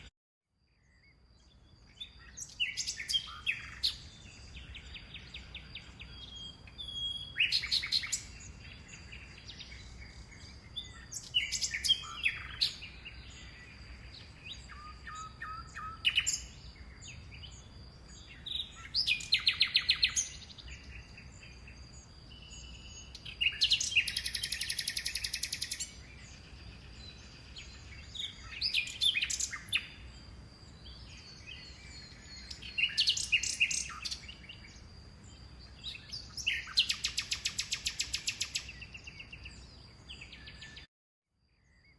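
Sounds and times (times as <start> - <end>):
birds chirping and trilling: 0.8 - 40.9, 41.6 - 41.9.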